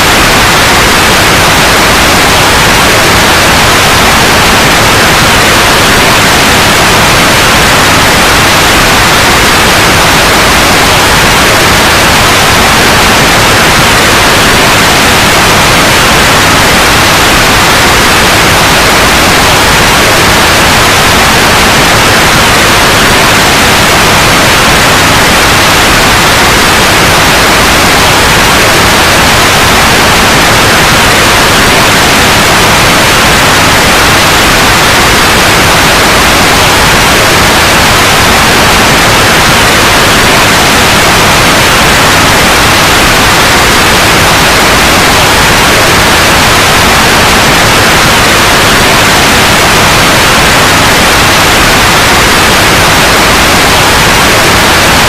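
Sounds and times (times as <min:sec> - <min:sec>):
loud white noise: 0:00.0 - 0:55.0.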